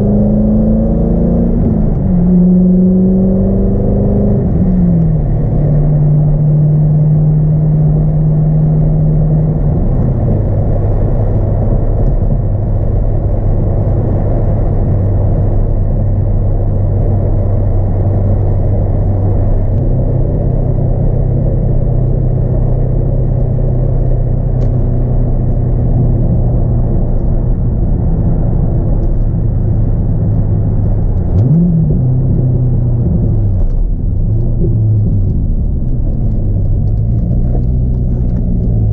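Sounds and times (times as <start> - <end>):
car engine drone: 0.0 - 38.9
tyre and road rumble: 0.0 - 38.9.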